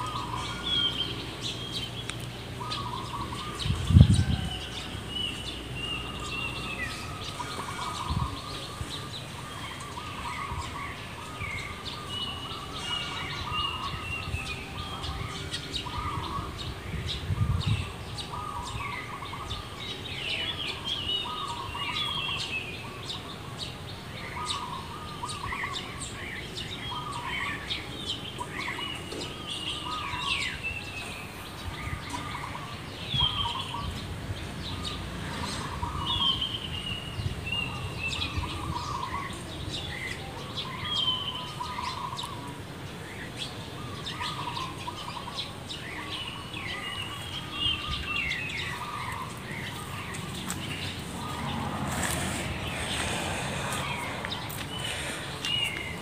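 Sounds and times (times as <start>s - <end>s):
birds warbling: 0.0s - 56.0s.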